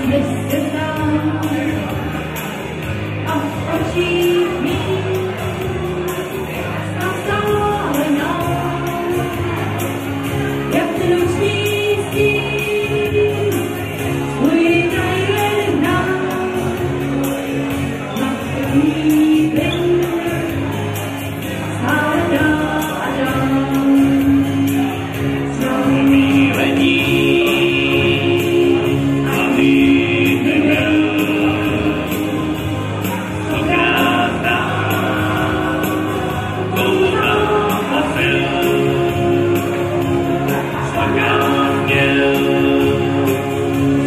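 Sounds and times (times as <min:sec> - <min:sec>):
woman singing: 0:00.0 - 0:02.1, 0:03.2 - 0:10.0, 0:10.6 - 0:17.2, 0:18.1 - 0:21.0, 0:21.6 - 0:44.0
electronic keyboards: 0:00.0 - 0:44.0.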